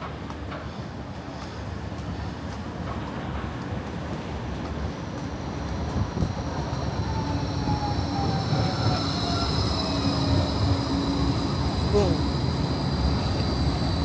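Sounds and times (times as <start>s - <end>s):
tram rumble: 0.0s - 14.0s.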